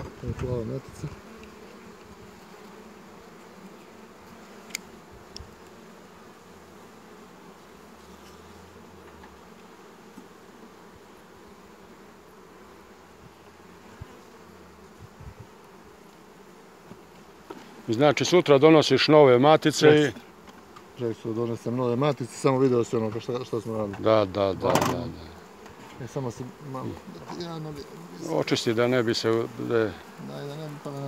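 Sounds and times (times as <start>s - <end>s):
honeybees humming: 0.0s - 31.0s.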